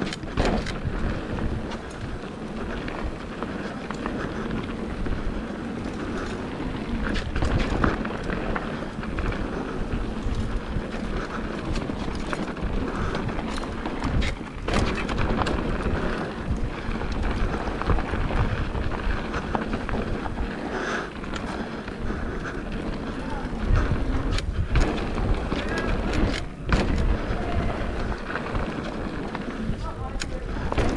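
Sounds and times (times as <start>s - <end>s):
bike knocking and rattling: 0.0s - 30.9s
tyres rumbling on dirt and rock: 0.0s - 30.9s.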